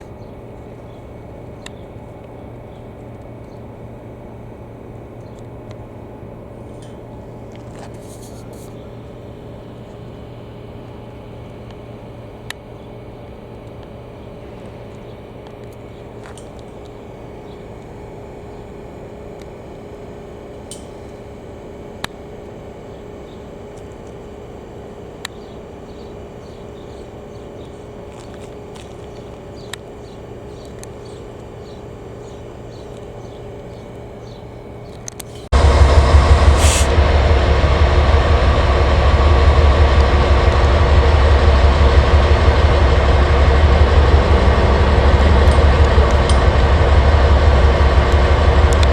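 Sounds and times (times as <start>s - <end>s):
diesel locomotive idling: 0.0s - 48.9s.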